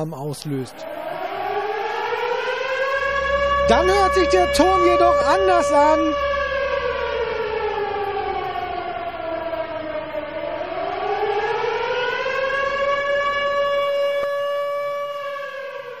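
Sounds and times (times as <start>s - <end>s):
siren wailing: 0.0s - 16.0s.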